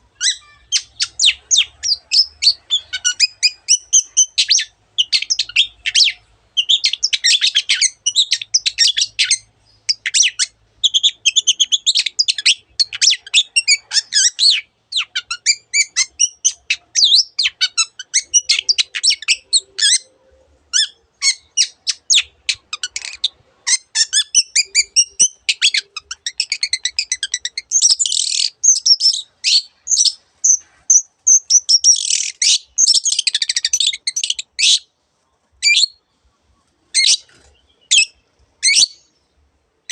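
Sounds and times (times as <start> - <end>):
shrike singing chirps and trills: 0.1 - 34.9, 35.6 - 39.9.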